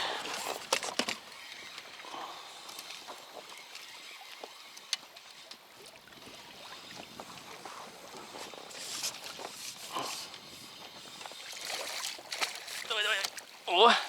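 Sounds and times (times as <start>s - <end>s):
faint water noise: 0.0s - 14.0s.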